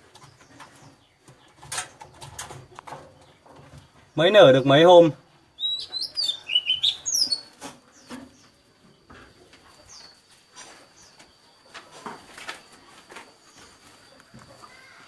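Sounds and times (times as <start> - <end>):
birds rustling and clicking: 0.0 - 4.8, 5.8 - 15.0
faint bird chirp: 2.8 - 15.0.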